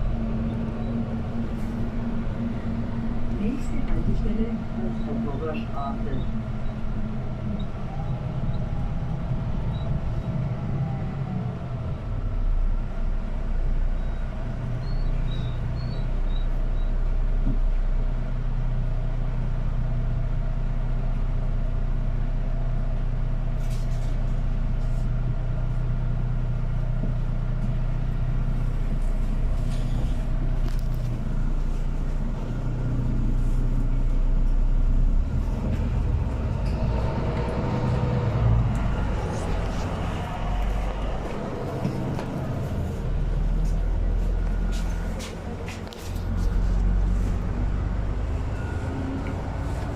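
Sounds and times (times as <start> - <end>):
bus engine rumble: 0.0 - 49.9.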